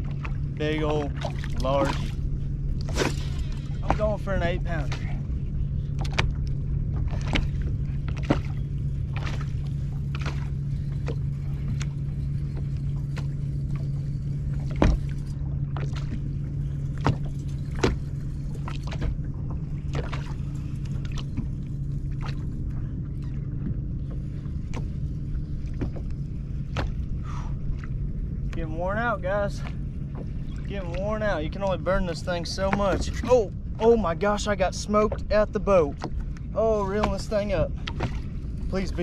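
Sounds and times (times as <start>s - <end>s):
electric trolling motor humming: 0.0s - 39.0s
waves slapping hull: 0.0s - 39.0s.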